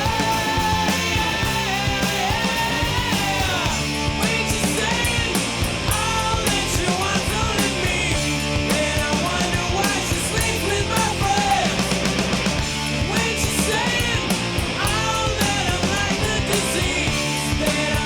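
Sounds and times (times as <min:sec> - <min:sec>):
driving drum beat: 0:00.0 - 0:18.0
punk rock music: 0:00.0 - 0:18.0.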